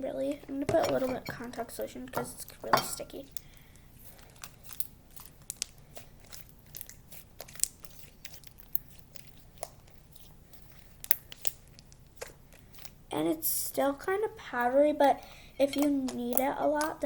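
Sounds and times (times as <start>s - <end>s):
slime clicking and crackling: 1.3s - 17.0s.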